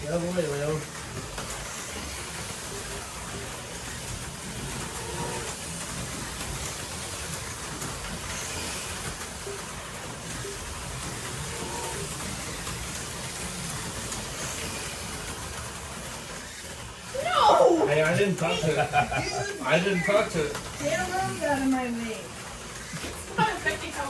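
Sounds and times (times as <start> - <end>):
slot car motors whirring: 0.0 - 24.0
slot cars rattling on track: 0.0 - 24.0.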